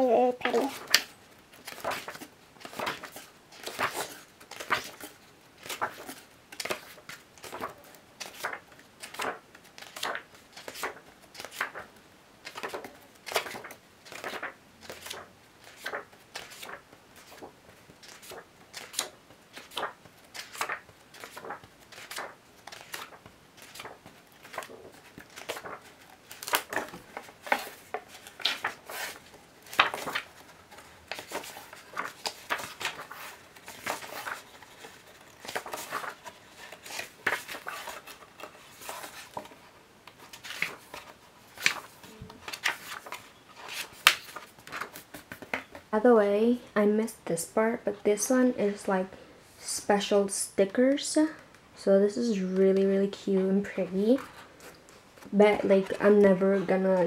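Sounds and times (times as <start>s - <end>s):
book pages flipping: 0.0s - 45.9s.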